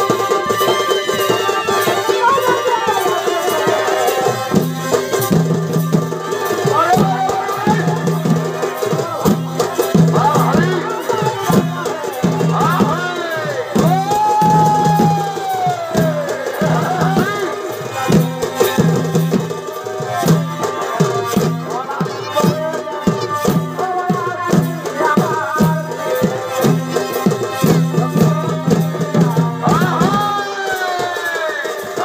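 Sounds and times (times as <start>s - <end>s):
reed pipe melody: 0.0s - 31.0s
drums beating driving rhythm: 0.0s - 32.0s.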